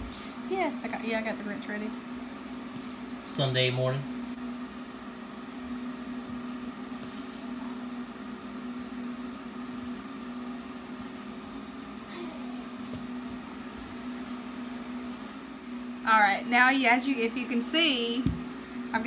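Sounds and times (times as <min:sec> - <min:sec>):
food dehydrator humming: 0:00.0 - 0:19.0.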